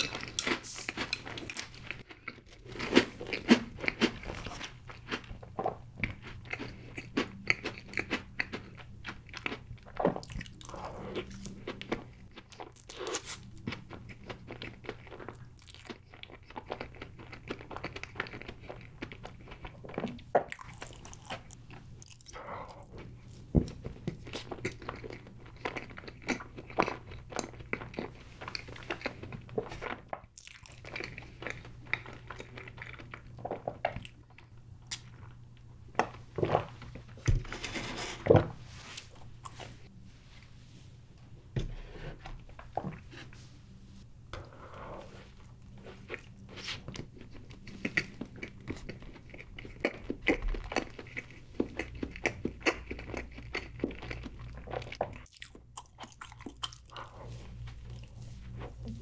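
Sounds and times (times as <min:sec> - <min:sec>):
mouth chewing cake: 0:00.0 - 0:35.4, 0:44.3 - 0:59.0.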